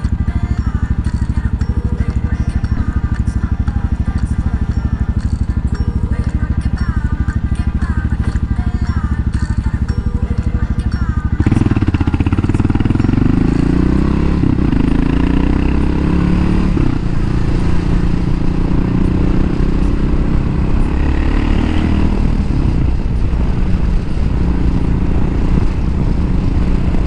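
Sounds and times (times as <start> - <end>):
motorcycle engine pulling away: 0.0 - 27.0.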